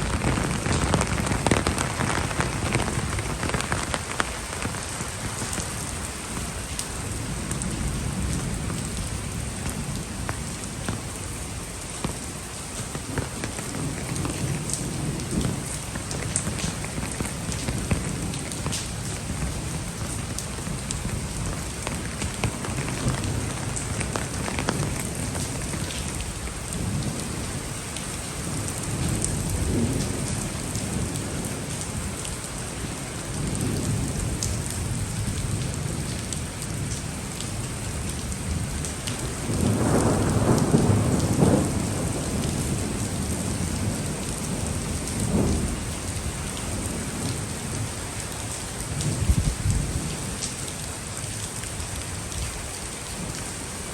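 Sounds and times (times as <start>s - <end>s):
thunder rumbling: 0.0s - 48.2s
heavy rain pouring: 0.0s - 53.9s.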